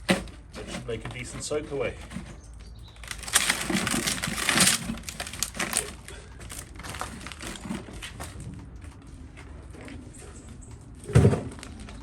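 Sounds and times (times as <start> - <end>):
loose material crunching and rustling: 0.0 - 10.0.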